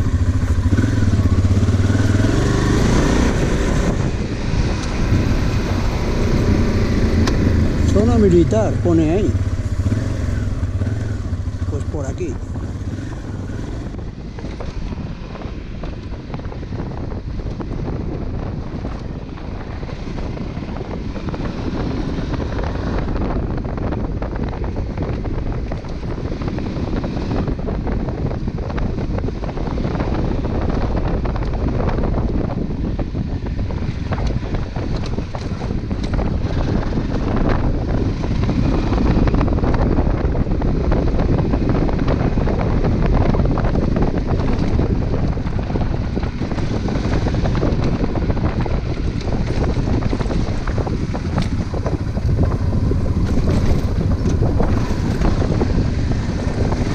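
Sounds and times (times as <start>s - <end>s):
motorcycle engine running: 0.0s - 56.9s
wind buffeting microphone: 0.0s - 56.9s.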